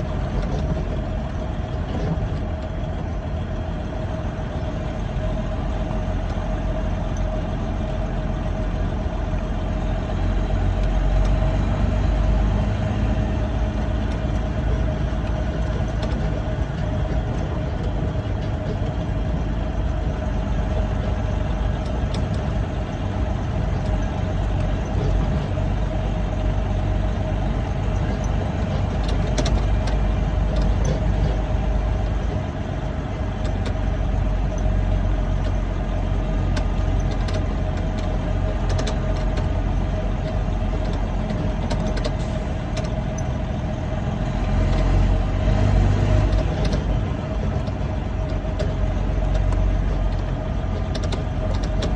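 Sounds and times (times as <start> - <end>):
diesel truck engine rumble: 0.0 - 51.9.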